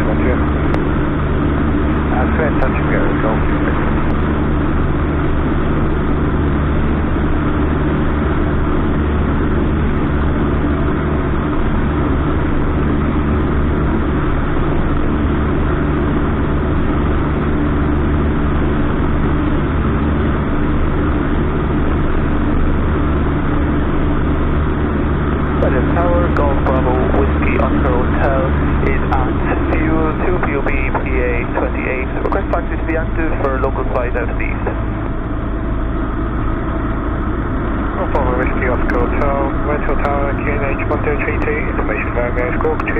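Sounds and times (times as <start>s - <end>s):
airplane engine and propeller droning: 0.0s - 42.9s.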